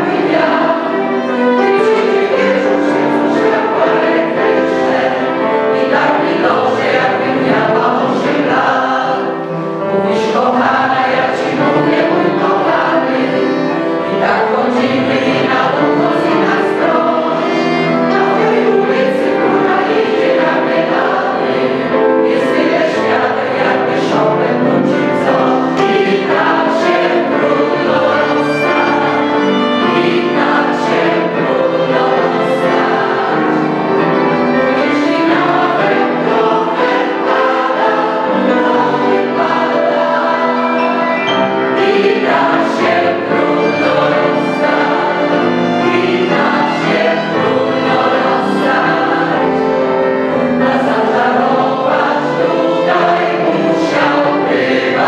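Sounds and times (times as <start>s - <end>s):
mixed choir singing: 0.0s - 55.0s
piano: 0.0s - 55.0s
violin: 0.0s - 55.0s.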